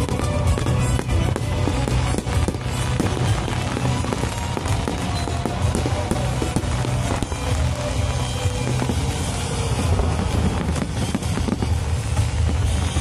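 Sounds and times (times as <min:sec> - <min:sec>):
fireworks bangs and crackles: 0:00.0 - 0:13.0
loud bass-heavy music: 0:00.0 - 0:13.0.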